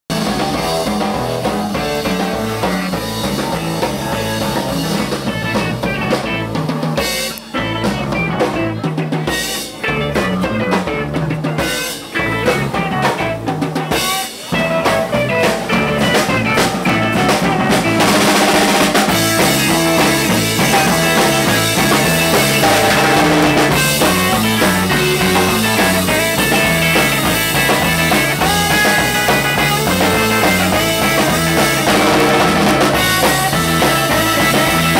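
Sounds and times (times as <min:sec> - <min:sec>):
rock band playing: 0:00.1 - 0:34.9.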